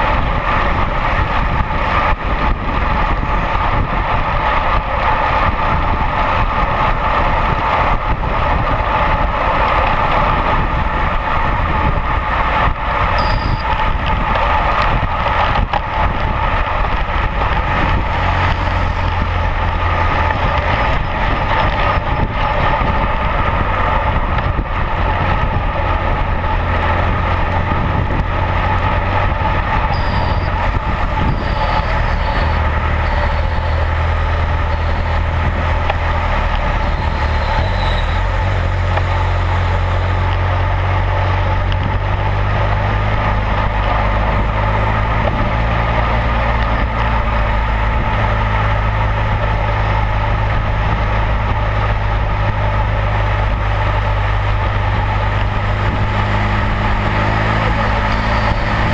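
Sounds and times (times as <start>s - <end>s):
motorcycle engine drone: 0.0s - 58.9s
wind and road rush: 0.0s - 58.9s.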